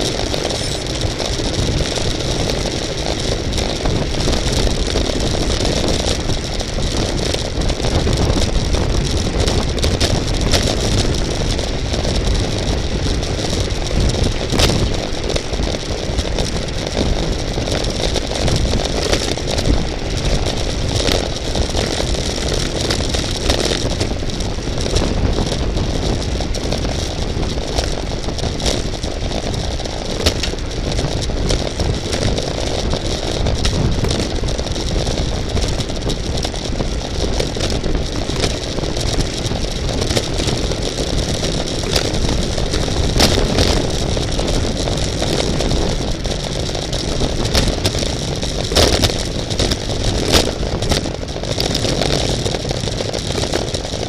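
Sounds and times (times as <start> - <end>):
bicycle road noise: 0.0 - 54.0
small clicks and rattles: 0.0 - 54.0
wind rushing over microphone: 0.0 - 54.0.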